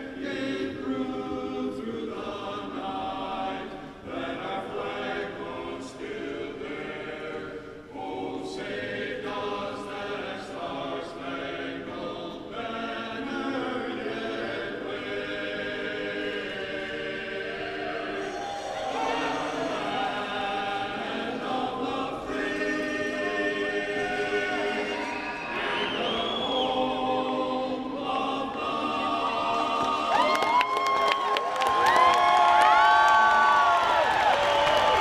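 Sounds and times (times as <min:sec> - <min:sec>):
person singing anthem: 0:00.0 - 0:31.2.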